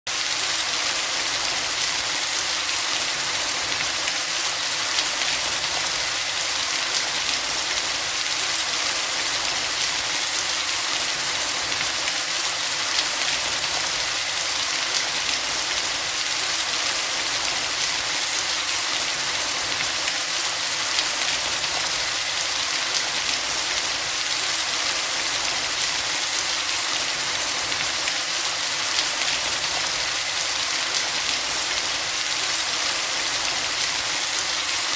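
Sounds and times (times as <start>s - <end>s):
rain hissing: 0.1s - 34.9s.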